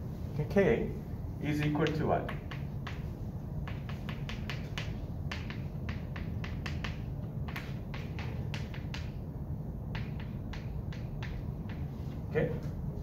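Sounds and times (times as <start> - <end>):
low room hum: 0.0 - 13.0
chalk tapping on blackboard: 1.6 - 12.3.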